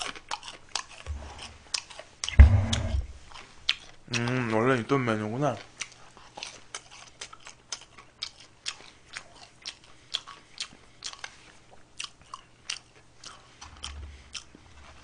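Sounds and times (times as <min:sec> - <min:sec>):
person chewing crunchy food: 0:00.0 - 0:04.4, 0:05.6 - 0:15.0.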